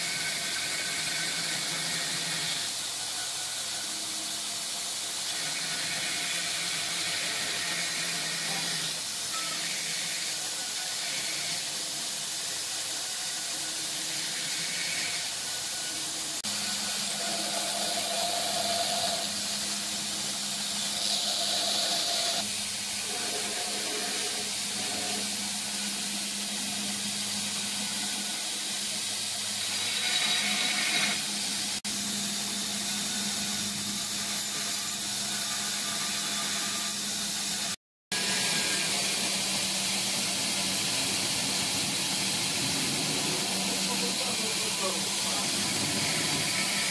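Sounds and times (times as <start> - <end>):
belt grinder grinding hiss: 0.0 - 46.9.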